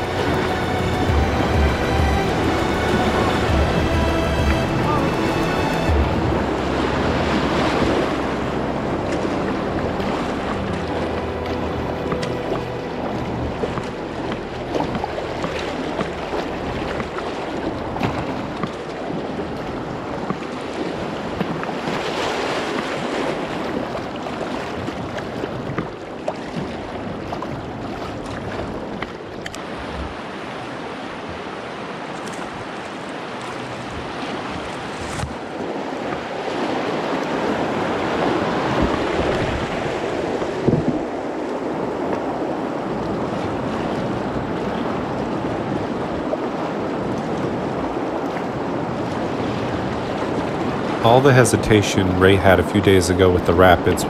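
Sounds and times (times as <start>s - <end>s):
river rapids rushing: 0.0s - 26.1s, 28.6s - 54.0s
wind buffeting microphone: 0.0s - 54.0s.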